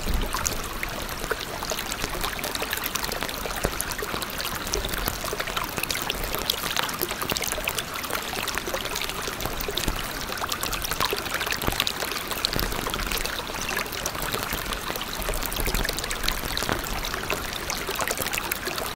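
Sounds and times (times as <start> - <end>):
stream running: 0.0 - 18.9.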